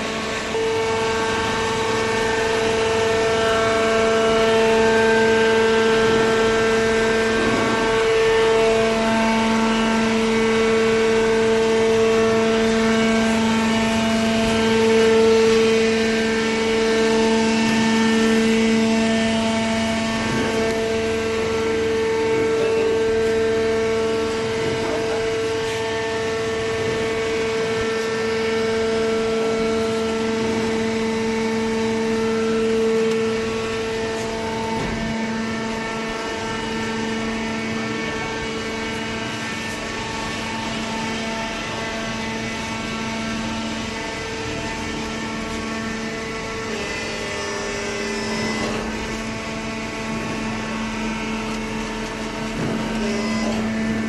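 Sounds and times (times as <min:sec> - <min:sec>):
hydraulic pump motor whine: 0:00.0 - 0:54.0.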